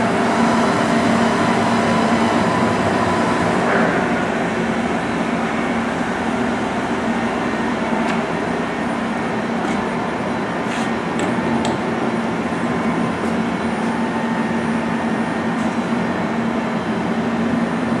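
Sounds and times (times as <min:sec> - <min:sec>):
lathe mechanical hum: 0:00.0 - 0:18.0.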